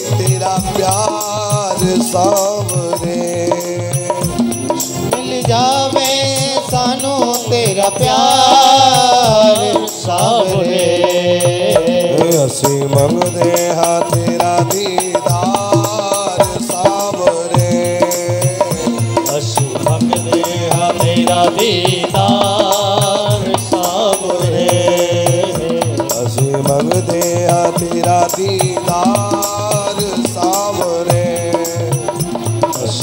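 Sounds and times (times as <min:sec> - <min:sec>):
hand drum beat: 0:00.0 - 0:33.0.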